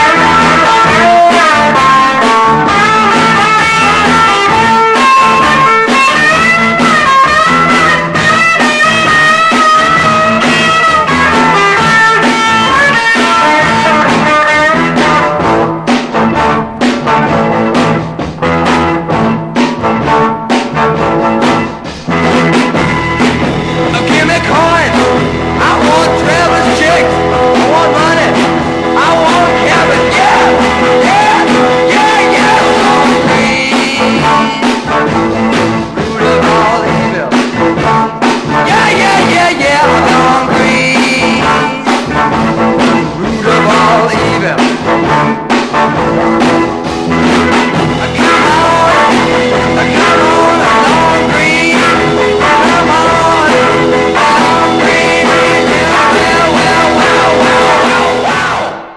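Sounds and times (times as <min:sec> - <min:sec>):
rock music with singing: 0:00.0 - 0:58.9.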